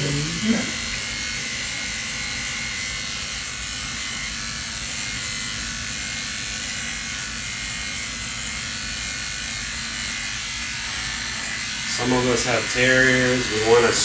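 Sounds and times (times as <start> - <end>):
electric dog clippers running: 0.0 - 14.0.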